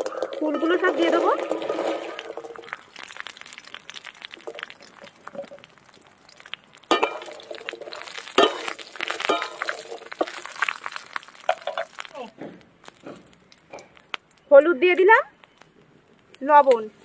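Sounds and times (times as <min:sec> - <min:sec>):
dried fruit rattling in metal pan: 0:00.0 - 0:14.7.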